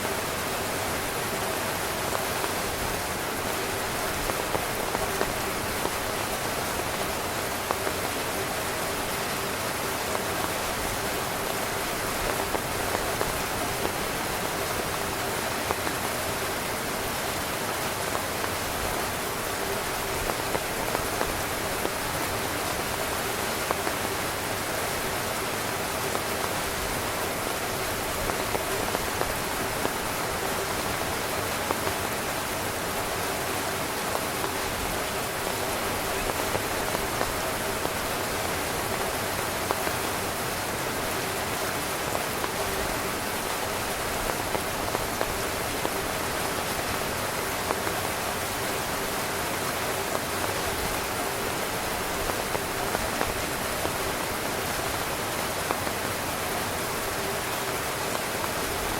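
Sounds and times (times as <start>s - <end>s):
heavy rain drumming on tent fabric: 0.0s - 58.9s.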